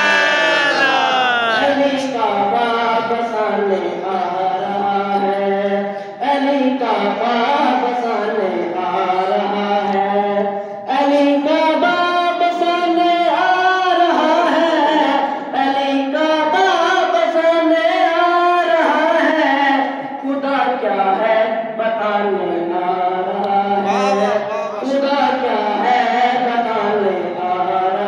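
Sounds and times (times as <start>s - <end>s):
boy chanting into a microphone: 0.0s - 28.0s.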